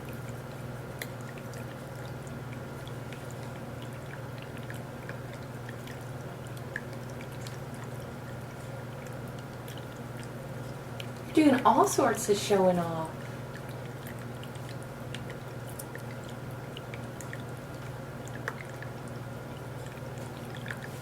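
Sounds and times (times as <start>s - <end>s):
pump hum: 0.0s - 21.0s
water trickling and dripping: 0.0s - 21.0s.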